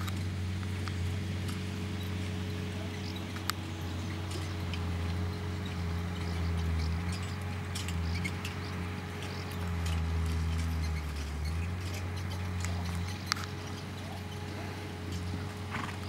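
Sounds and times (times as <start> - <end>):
carriage low rumble: 0.0 - 16.0.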